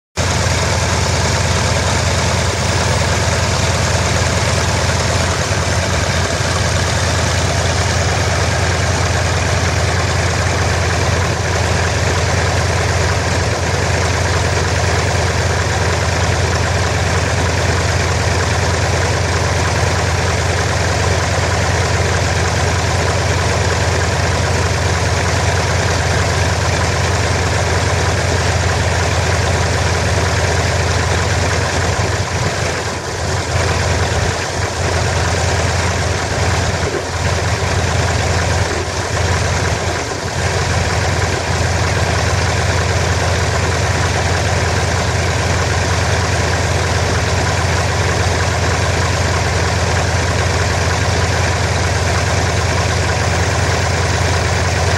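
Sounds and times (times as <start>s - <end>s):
plane piston engine idling: 0.2s - 54.9s.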